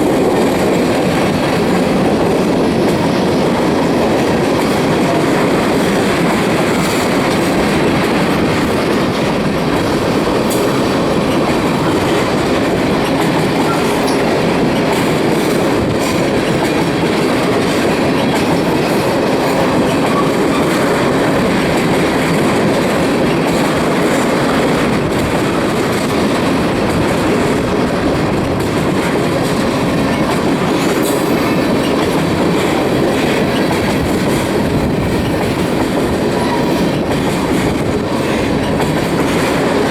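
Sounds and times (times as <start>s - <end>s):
freight train wheels rumbling and rattling: 0.0s - 39.9s
wheels clickety-clack: 0.0s - 39.9s.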